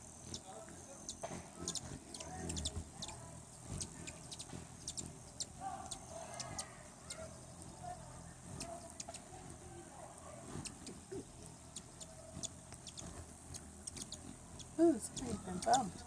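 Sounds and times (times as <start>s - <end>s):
hummingbirds chipping and squeaking: 0.0s - 16.0s.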